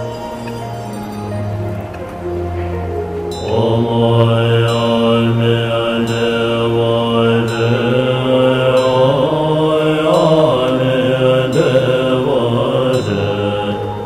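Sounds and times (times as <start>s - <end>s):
chanted melodic line: 0.0s - 14.0s
low voices chanting a drone: 0.0s - 14.0s.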